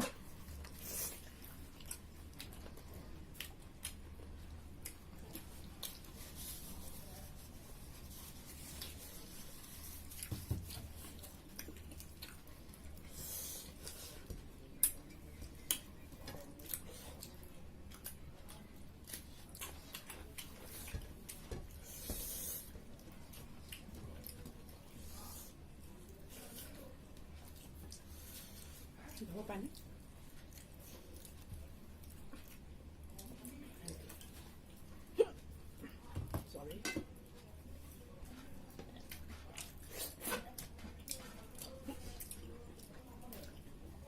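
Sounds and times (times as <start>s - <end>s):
soft chewing: 0.0s - 44.0s.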